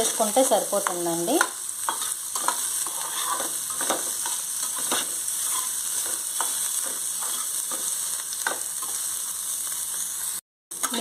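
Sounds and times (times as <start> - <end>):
spatula scraping pan: 0.0 - 9.2
food sizzling in hot oil: 0.0 - 11.0.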